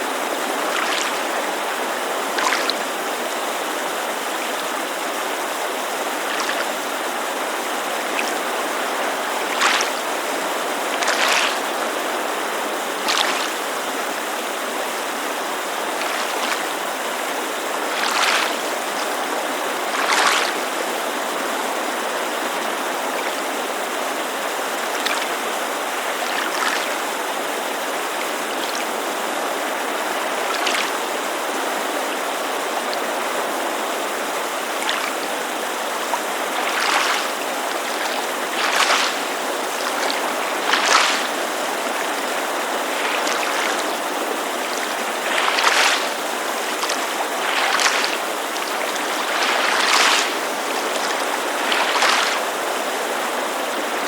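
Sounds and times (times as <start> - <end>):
creek rushing: 0.0 - 54.0
small waves splashing on shore: 0.0 - 54.0.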